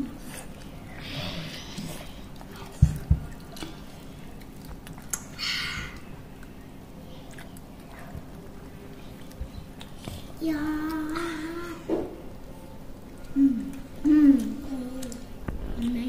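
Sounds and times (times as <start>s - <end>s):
children chewing food: 0.0s - 16.0s.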